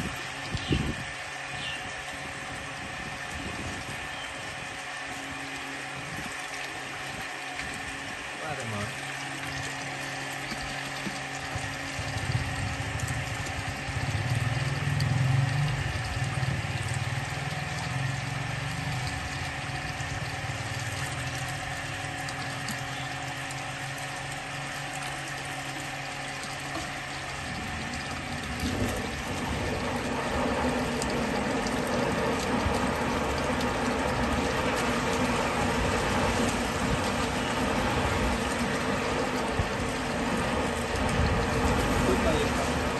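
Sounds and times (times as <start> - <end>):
drain-cleaning machine running: 0.0 - 42.9
water pouring from pipe: 0.0 - 42.9.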